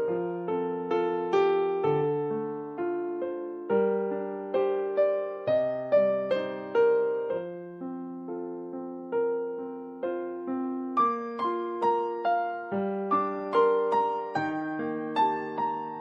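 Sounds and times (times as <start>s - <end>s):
slow electric piano melody: 0.0s - 16.0s.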